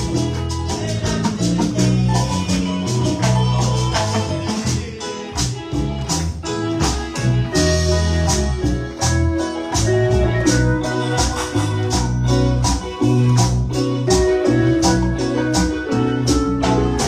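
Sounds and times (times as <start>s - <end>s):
upbeat instrumental worship music: 0.0s - 17.0s.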